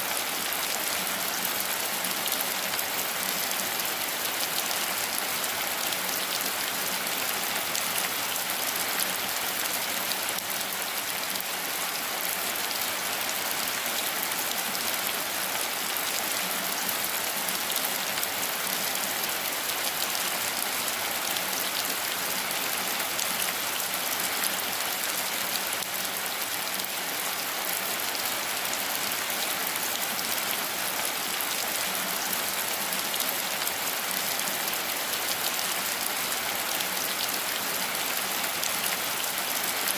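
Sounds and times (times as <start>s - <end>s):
steady rain on leaves: 0.0s - 39.9s.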